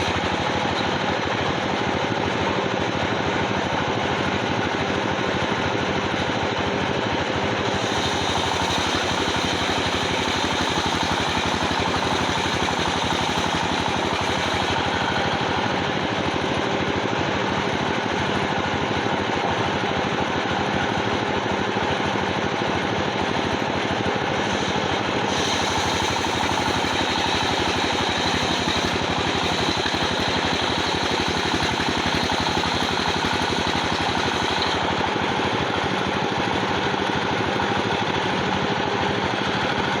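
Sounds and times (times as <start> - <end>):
sawmill machinery droning: 0.0 - 40.0.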